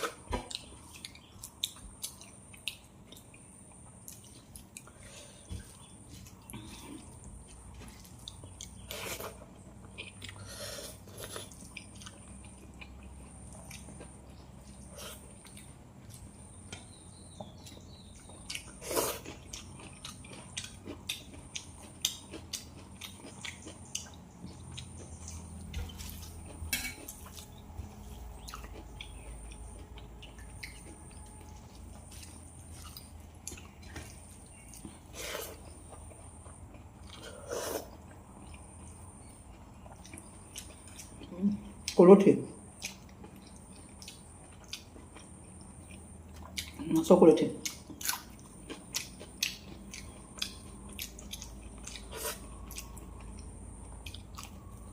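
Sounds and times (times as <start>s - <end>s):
chewing: 0.0s - 42.0s, 42.7s - 54.9s
low steady hum: 0.0s - 54.9s.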